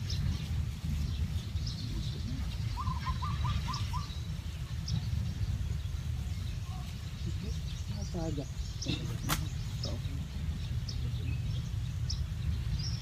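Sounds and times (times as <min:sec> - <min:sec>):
birds chirping: 0:00.0 - 0:13.0
low rumble: 0:00.0 - 0:13.0.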